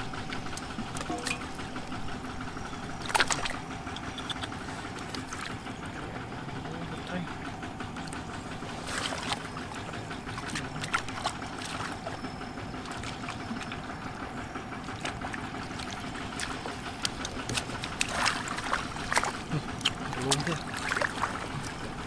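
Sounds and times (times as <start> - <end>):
engine hum: 0.0 - 22.0
water trickling and sloshing: 0.0 - 22.0
water splashes: 3.0 - 5.8, 6.9 - 22.0.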